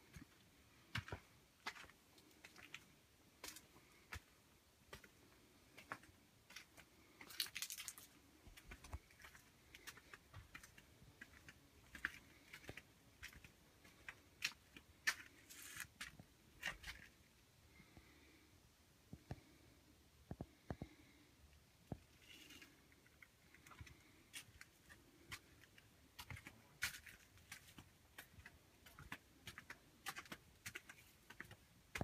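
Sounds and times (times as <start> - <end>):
quiet footsteps on flagstones: 0.0 - 17.3, 21.8 - 32.0.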